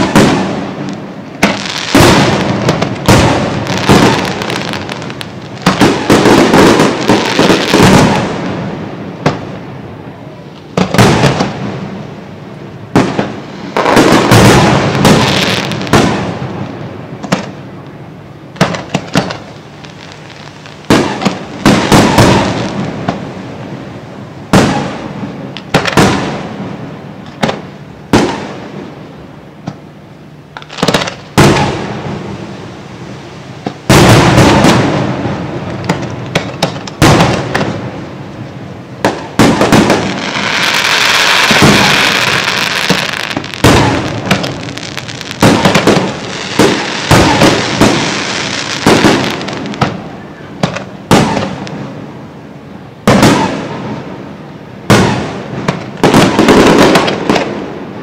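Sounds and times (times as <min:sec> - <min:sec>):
fireworks crackling: 0:00.0 - 0:29.6, 0:30.5 - 0:58.0
fireworks bangs: 0:00.0 - 0:29.8, 0:30.5 - 0:52.2, 0:53.0 - 0:58.0.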